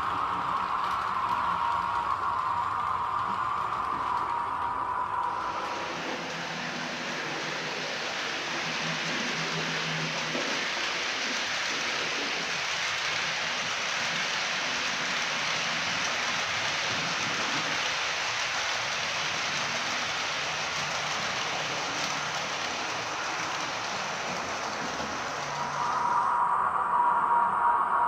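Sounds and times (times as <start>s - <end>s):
steady blower hiss: 0.0s - 26.4s.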